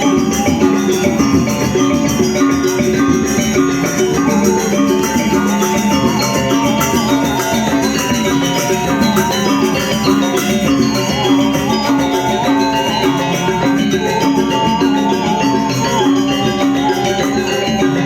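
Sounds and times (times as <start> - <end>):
gamelan playing: 0.0 - 18.0.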